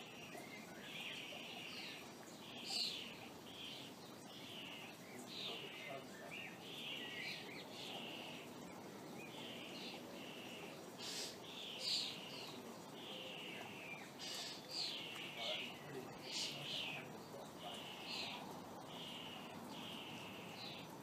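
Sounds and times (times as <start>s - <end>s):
faint outdoor background noise: 0.0s - 21.0s
songbird singing: 0.0s - 21.0s.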